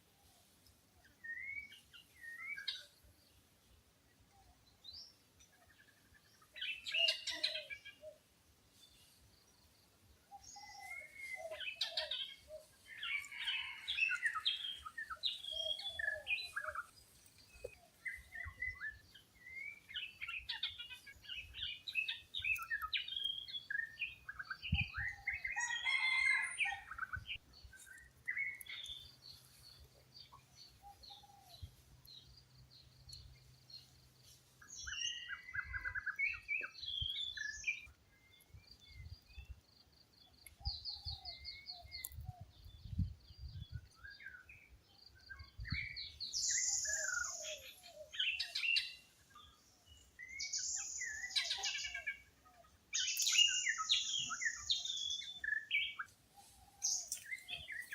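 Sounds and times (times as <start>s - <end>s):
wild birds chirping: 0.0s - 57.9s.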